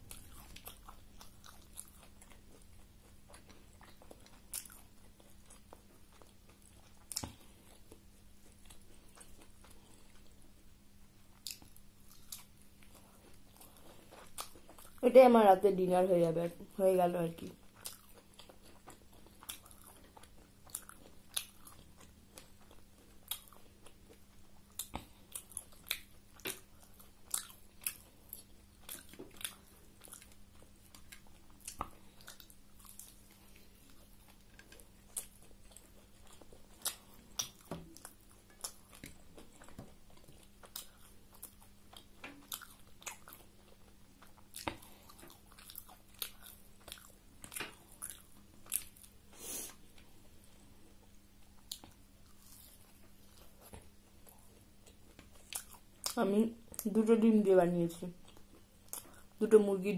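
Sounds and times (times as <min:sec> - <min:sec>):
person chewing and biting food: 0:00.0 - 0:10.6, 0:11.3 - 0:15.0, 0:17.7 - 0:56.8
faint steady hum: 0:00.0 - 0:59.9.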